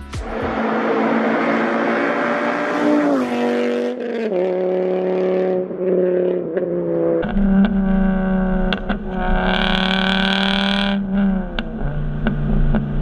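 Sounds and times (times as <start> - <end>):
car engine at high revs: 0.3 - 13.0.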